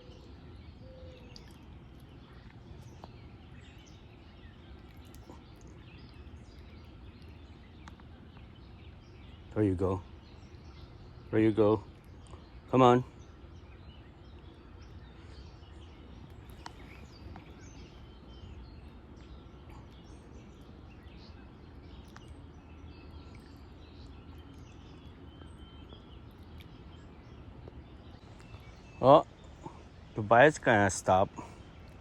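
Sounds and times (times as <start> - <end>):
faint bird chirps: 0.0 - 32.0
low background rush: 0.0 - 32.0.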